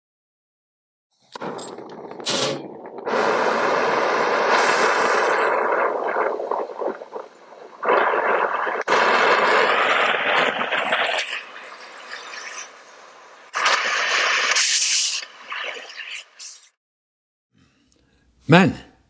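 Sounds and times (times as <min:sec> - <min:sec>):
fizzing crackling sparks: 0:01.3 - 0:16.8.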